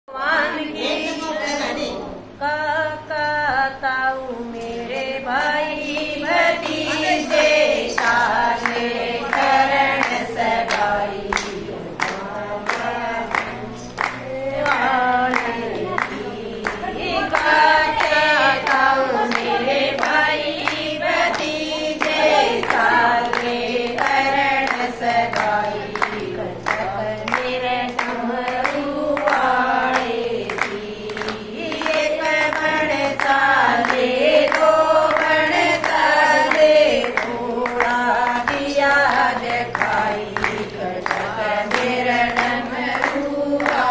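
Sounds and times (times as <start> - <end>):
women singing together: 0.1 - 43.9
hands clapping to a beat: 4.9 - 43.9.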